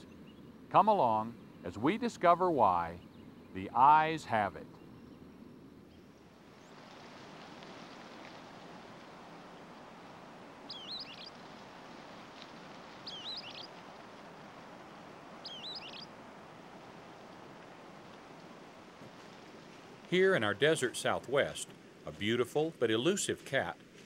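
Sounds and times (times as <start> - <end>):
songbird chirping: 0.0 - 23.8
steady outdoor hiss: 0.0 - 24.0.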